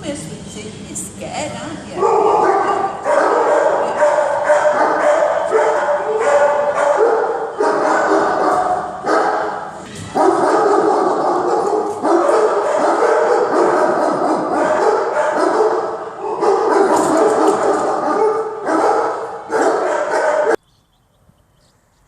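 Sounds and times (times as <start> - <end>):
dogs barking and yelping: 1.9 - 20.6.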